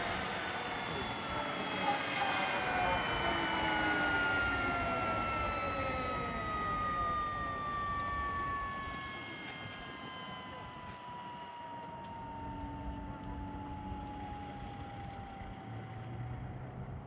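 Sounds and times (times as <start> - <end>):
helicopter turbine whine: 0.0 - 17.0
rotor and engine rumble: 0.0 - 17.0.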